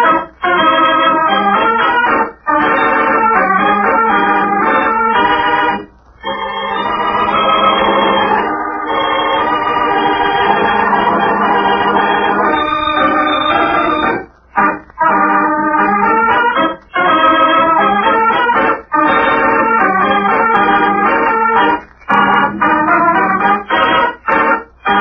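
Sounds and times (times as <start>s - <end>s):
organ playing held chords: 0.0s - 25.0s.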